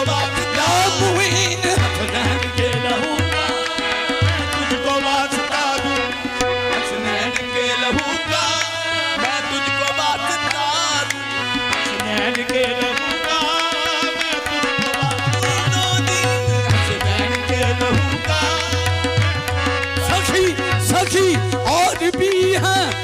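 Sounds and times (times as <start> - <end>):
sustained melodic accompaniment: 0.0 - 23.0
tabla playing: 0.0 - 23.0.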